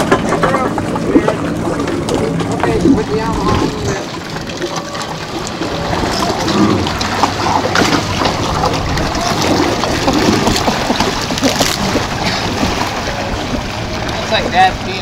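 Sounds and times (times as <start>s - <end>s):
jet ski engine running: 0.0s - 15.0s
water churning and splashing: 0.0s - 15.0s.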